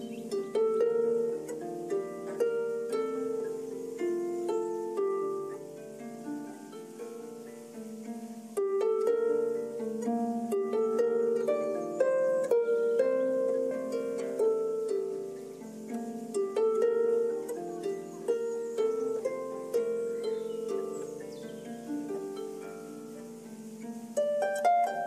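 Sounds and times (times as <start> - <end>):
harp plucked: 0.0 - 25.0.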